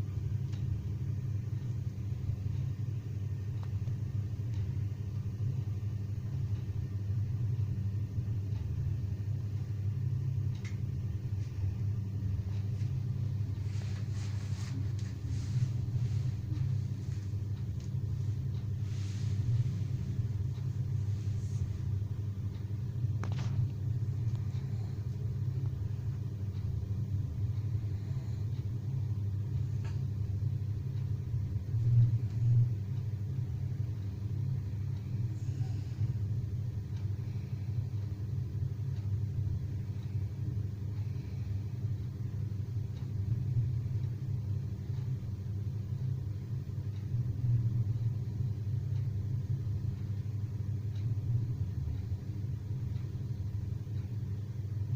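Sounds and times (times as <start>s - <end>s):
low room rumble: 0.0s - 54.9s.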